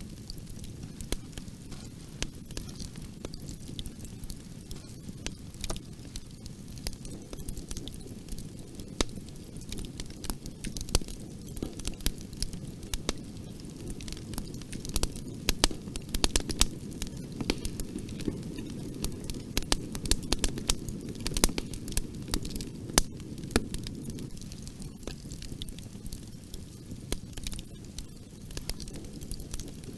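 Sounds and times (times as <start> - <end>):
fireplace fire crackling: 0.0 - 29.9.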